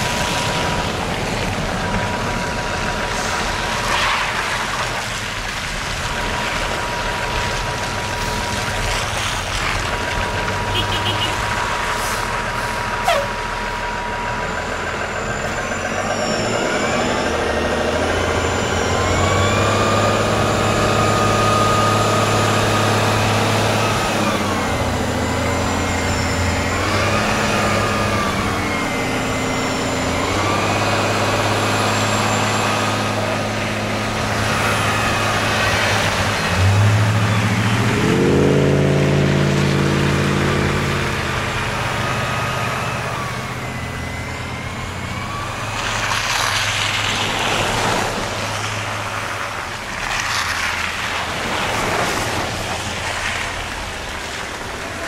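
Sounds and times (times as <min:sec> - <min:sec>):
bus electric drive whine: 0:00.0 - 0:55.0
bus engine drone: 0:00.0 - 0:55.0
vehicle engine: 0:00.0 - 0:55.0.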